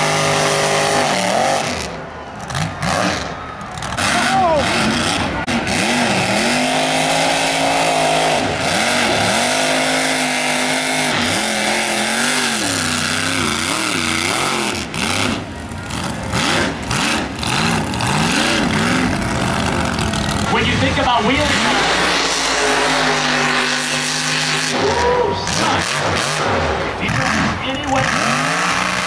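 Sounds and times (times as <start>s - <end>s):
truck engine revving hard: 0.0s - 29.0s.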